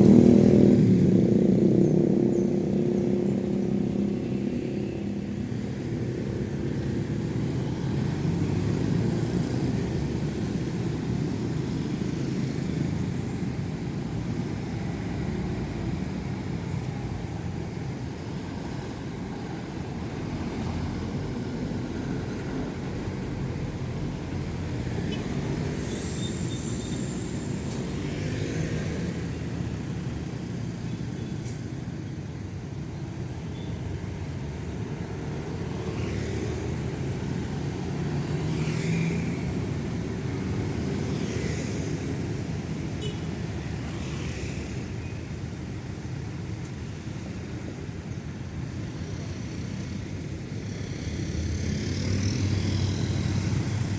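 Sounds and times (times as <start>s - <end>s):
cars and motorcycles passing: 0.0s - 53.9s.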